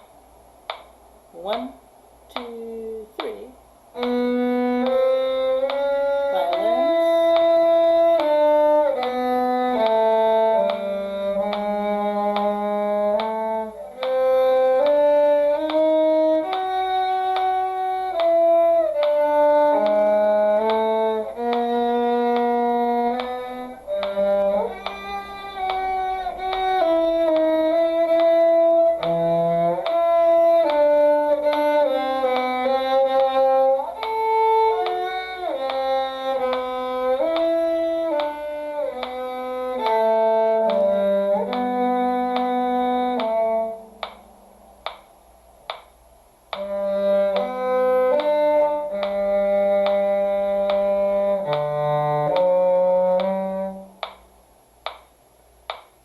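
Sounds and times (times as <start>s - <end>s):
violin: 3.2s - 44.2s, 46.5s - 54.2s
cello: 3.9s - 44.2s, 46.5s - 54.2s.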